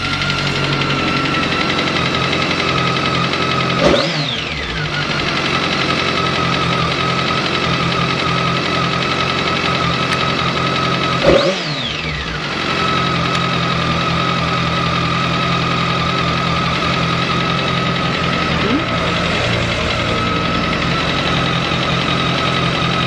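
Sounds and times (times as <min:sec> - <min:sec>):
motorcycle engine idling: 0:00.0 - 0:23.0
motorcycle engine revving: 0:00.0 - 0:23.0.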